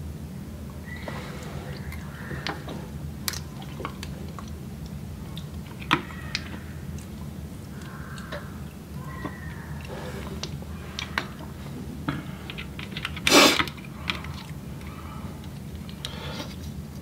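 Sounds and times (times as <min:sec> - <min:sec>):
mussel shells cracking: 0:01.8 - 0:16.2.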